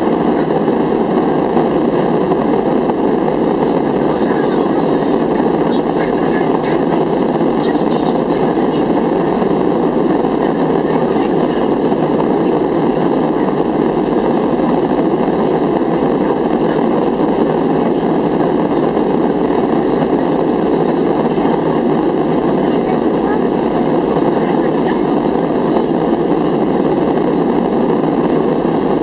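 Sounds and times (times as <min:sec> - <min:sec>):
airplane cabin engine noise: 0:00.0 - 0:29.0.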